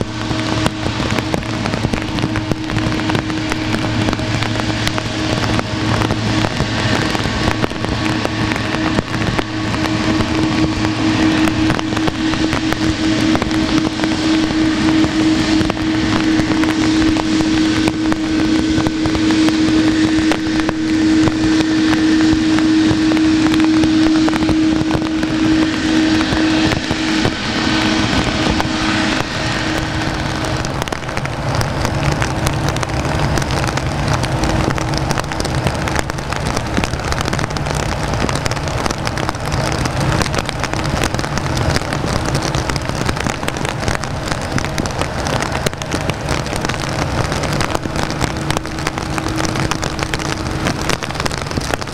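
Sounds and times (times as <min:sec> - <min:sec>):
heavy rain hiss: 0:00.0 - 0:51.9
jet engines whining: 0:00.0 - 0:51.9
low hum: 0:00.0 - 0:51.9.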